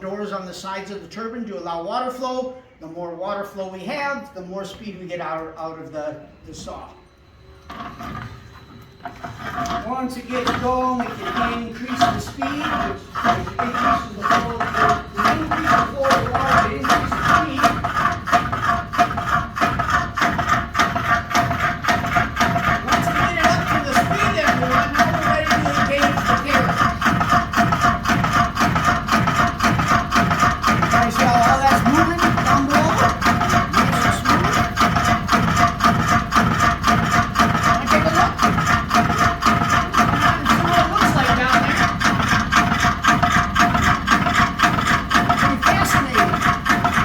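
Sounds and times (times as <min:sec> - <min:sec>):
steady mechanical hum: 0:00.0 - 0:47.0
jig saw running: 0:07.8 - 0:47.0.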